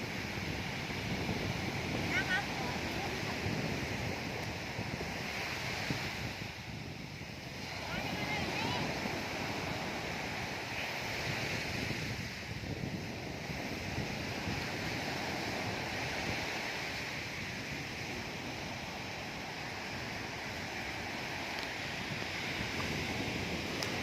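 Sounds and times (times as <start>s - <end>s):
sea surf on a beach: 0.0s - 24.0s
wind buffeting microphone: 0.0s - 24.0s.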